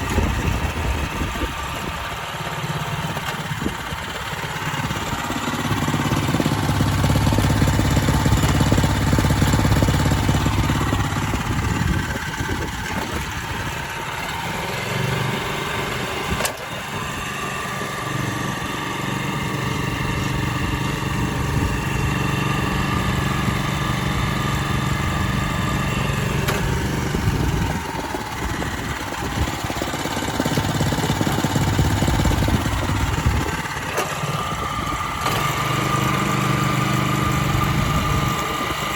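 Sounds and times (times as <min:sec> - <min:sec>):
cultivator engine running: 0:00.0 - 0:38.9.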